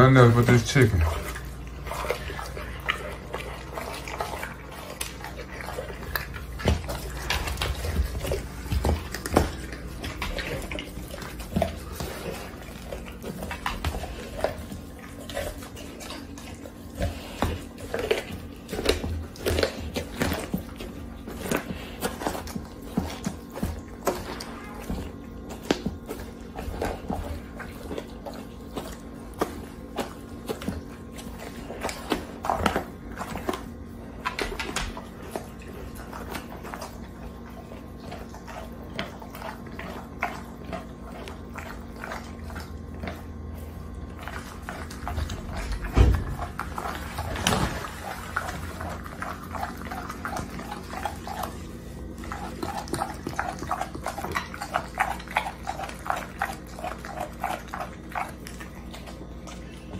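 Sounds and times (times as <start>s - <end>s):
dog chewing raw chicken: 0.0s - 59.9s.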